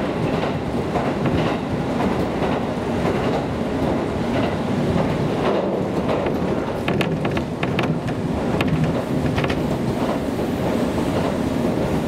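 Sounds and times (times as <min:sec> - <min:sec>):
wheels rumbling on rail: 0:00.0 - 0:12.0
wheels clicking over rail joints: 0:00.2 - 0:12.0.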